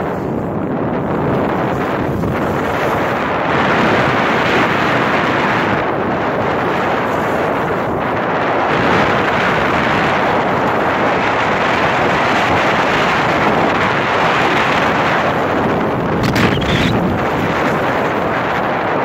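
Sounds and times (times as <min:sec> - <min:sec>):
wind rushing on microphone: 0:00.0 - 0:19.0.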